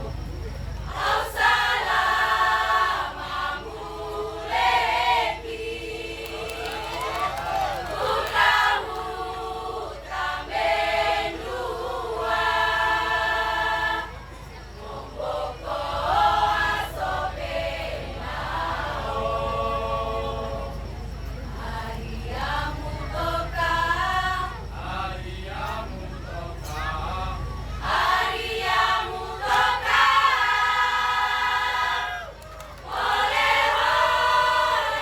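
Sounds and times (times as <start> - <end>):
choir singing: 0.8 - 35.0.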